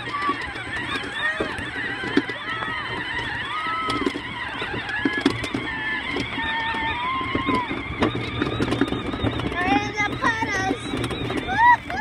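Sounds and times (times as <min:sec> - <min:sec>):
four-wheeler engine whining: 0:00.0 - 0:12.0
knocks from wheels: 0:00.0 - 0:12.0
wheels splashing through water: 0:00.0 - 0:12.0.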